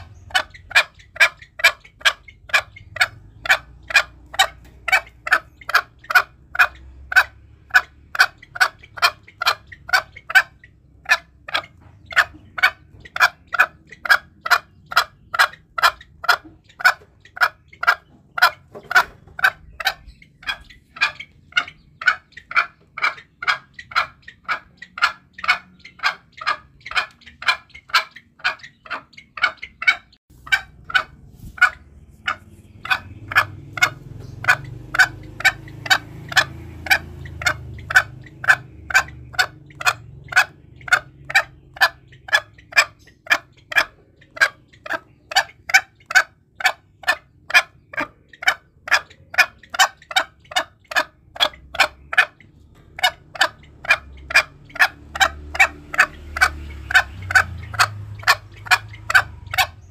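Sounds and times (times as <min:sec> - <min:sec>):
junglefowl clucking calls: 0:00.0 - 0:59.9.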